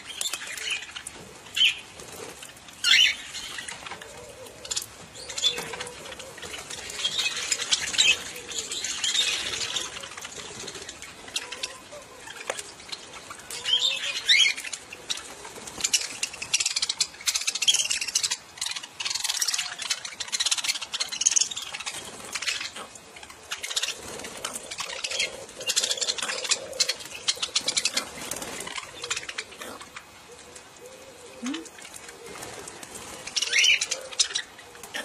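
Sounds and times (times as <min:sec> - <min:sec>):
wings fluttering: 0:00.0 - 0:30.8, 0:31.4 - 0:35.0.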